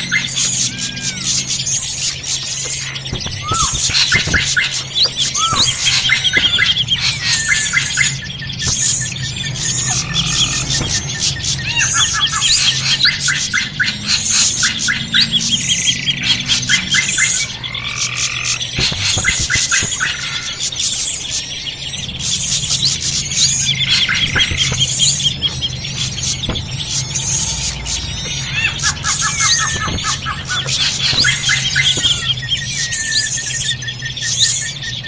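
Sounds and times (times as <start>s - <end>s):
small birds chattering: 0.0s - 35.0s.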